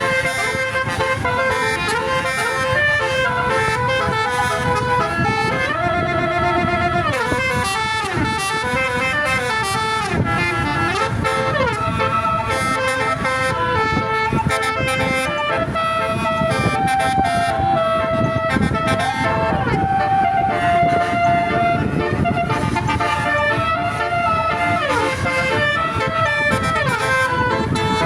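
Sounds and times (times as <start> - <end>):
musical air horns melody: 0.0 - 28.0.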